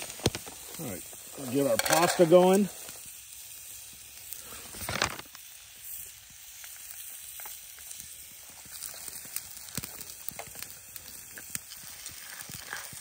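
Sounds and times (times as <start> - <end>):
steak sizzling on a griddle: 0.0 - 13.0.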